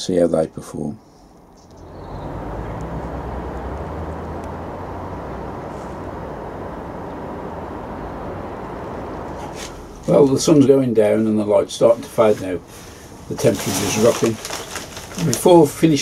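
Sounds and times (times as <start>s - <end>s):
low outdoor rumble: 0.5s - 16.0s.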